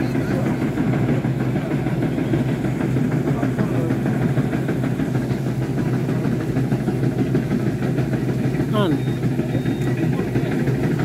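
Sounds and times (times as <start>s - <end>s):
harvester engine droning: 0.0s - 11.0s.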